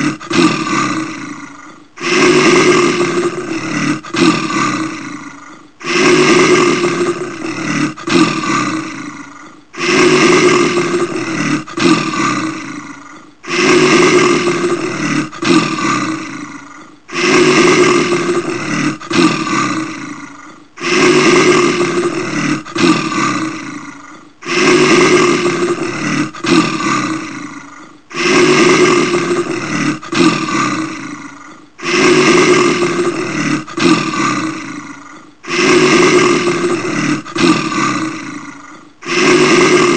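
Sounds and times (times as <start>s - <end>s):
bear roaring: 0.0s - 39.9s.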